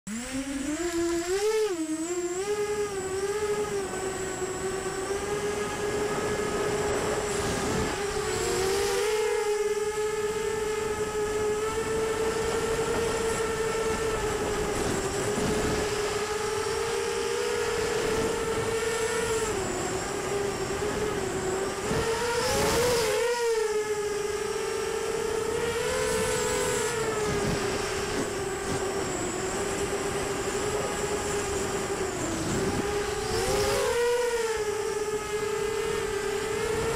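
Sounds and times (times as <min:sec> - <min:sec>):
drone motors high whine: 0:00.1 - 0:36.9.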